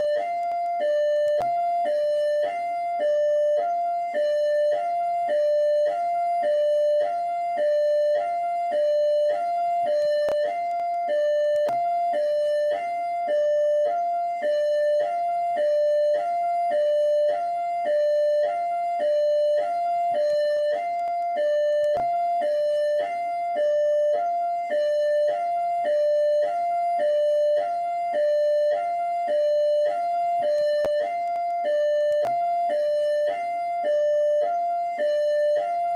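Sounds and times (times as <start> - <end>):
two-tone hi-lo police siren: 0.0 - 35.9.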